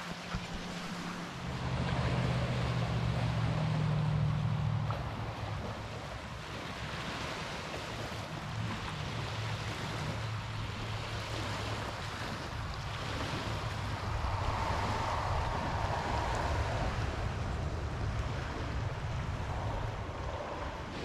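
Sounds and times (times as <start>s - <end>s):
low drone: 0.0s - 6.3s, 8.5s - 21.0s
water rushing along boat hull: 0.0s - 21.0s
wind buffeting microphone: 0.0s - 21.0s.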